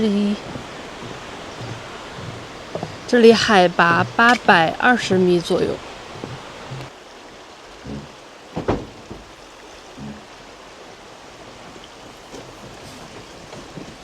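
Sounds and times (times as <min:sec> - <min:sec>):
rushing outdoor ambience: 0:00.0 - 0:14.0.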